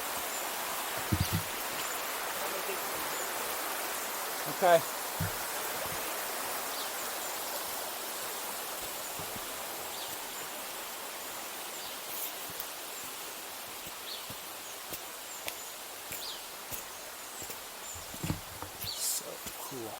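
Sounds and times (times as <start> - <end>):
river water flowing: 0.0 - 19.9.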